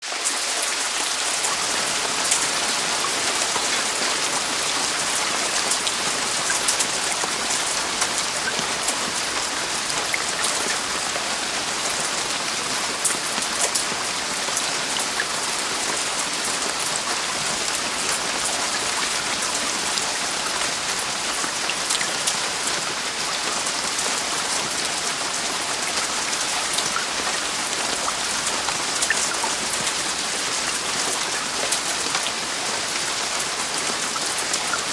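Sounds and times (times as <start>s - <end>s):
heavy rain on a roof: 0.0s - 34.9s.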